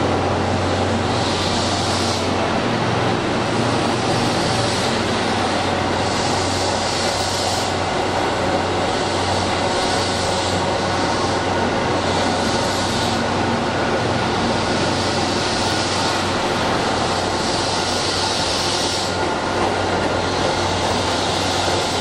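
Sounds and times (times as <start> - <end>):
electric train rolling rumble: 0.0 - 22.0
train hiss: 0.0 - 22.0.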